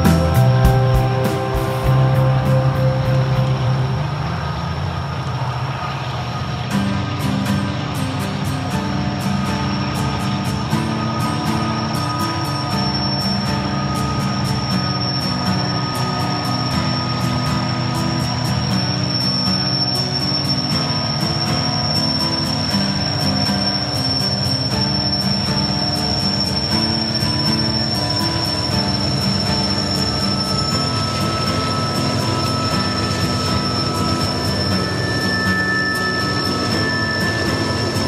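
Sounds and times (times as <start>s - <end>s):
high-pitched tone: 0.0s - 5.6s, 6.4s - 38.0s
diesel locomotive engines droning: 0.0s - 38.0s.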